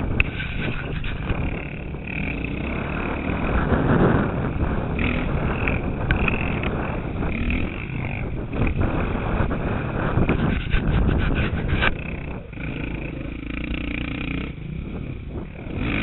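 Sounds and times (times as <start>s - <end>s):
motocross bike engine revving: 0.0s - 16.0s
wind noise on microphone: 0.0s - 16.0s.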